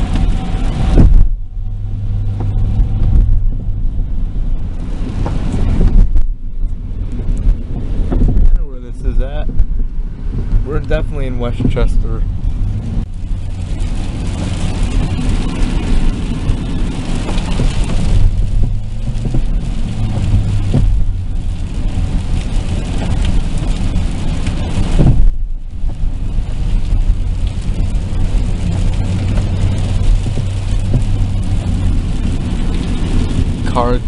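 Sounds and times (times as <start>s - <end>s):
engine and tyre rumble: 0.0s - 34.0s
tyre and wind hiss: 0.0s - 34.0s.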